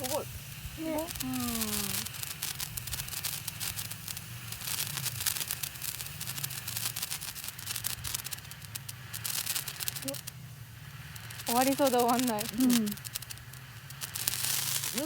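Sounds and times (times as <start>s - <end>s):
firework crackling and sputtering: 0.0s - 15.0s.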